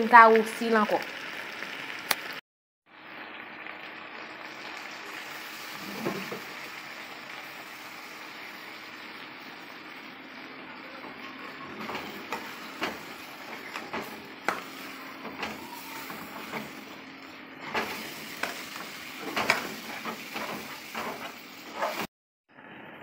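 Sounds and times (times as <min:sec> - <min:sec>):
meat sizzling: 0:00.0 - 0:22.1.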